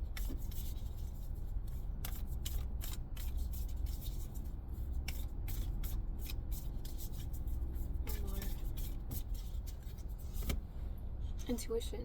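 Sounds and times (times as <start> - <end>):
cards being shuffled: 0.1 - 10.6.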